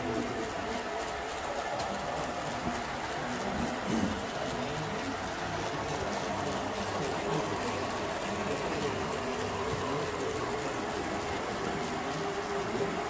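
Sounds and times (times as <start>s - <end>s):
model train running hum: 0.0s - 13.0s
murmur of distant voices: 0.0s - 13.0s.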